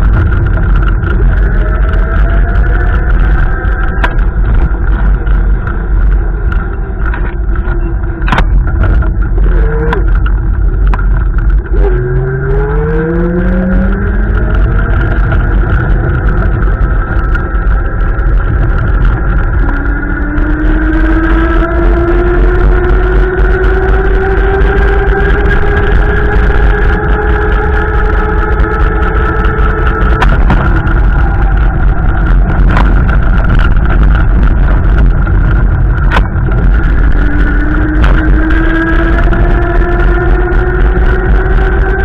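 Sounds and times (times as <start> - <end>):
engine accelerating: 0.0 - 42.0
wind buffeting microphone: 0.0 - 42.0.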